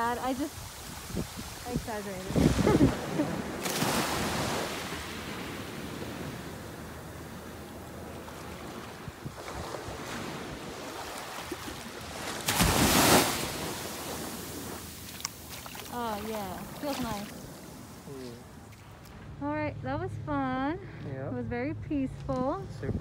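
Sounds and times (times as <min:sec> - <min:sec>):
waves breaking on sand beach: 0:00.0 - 0:19.4.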